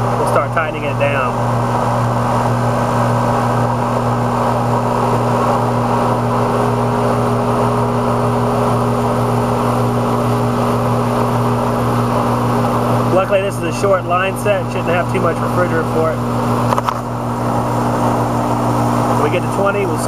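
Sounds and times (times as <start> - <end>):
compressor and fan hum: 0.0 - 20.0.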